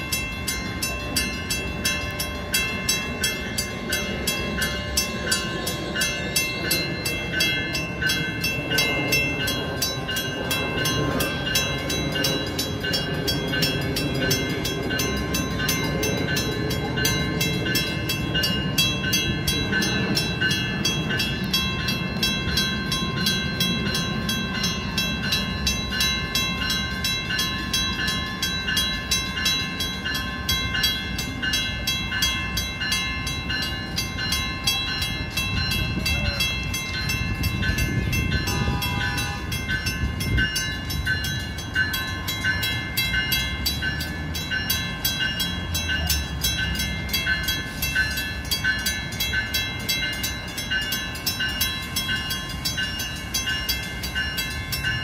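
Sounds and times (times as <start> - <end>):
diesel locomotive rumble: 0.0 - 55.0
level crossing bells ringing: 0.0 - 55.0.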